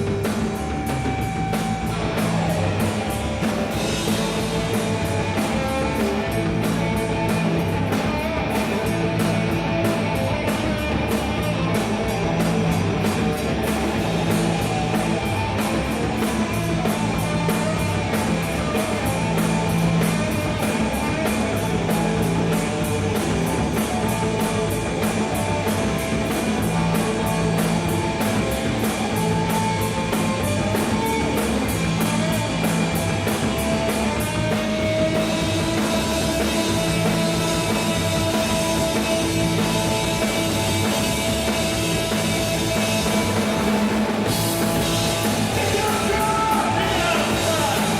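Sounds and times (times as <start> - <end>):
fast drumbeat: 0.0 - 47.9
punk rock band playing: 0.0 - 47.9.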